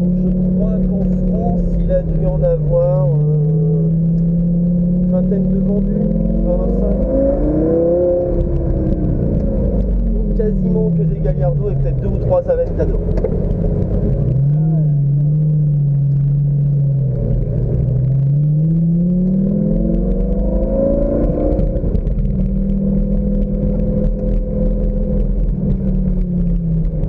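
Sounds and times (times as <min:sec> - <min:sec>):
sports car engine accelerating: 0:00.0 - 0:27.0.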